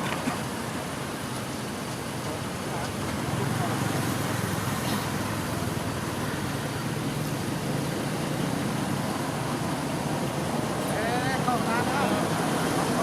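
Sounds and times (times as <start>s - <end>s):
background rumble and hiss: 0.0s - 13.0s.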